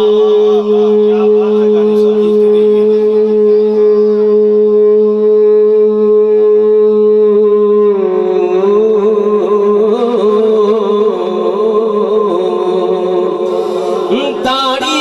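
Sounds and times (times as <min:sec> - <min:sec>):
man reciting melodically: 0:00.0 - 0:05.1, 0:07.7 - 0:15.0.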